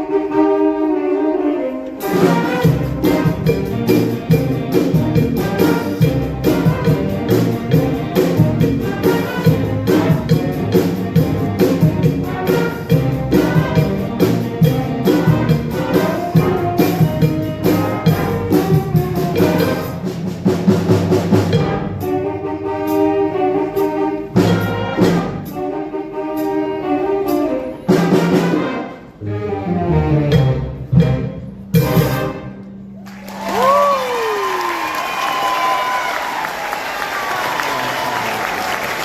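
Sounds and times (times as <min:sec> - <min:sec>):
band playing with brass: 0:00.0 - 0:39.0.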